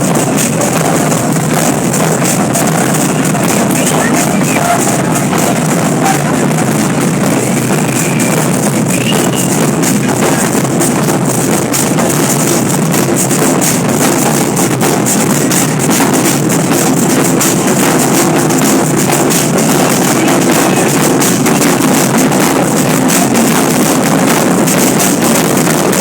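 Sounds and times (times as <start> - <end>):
loud drum-heavy music: 0.0 - 26.0.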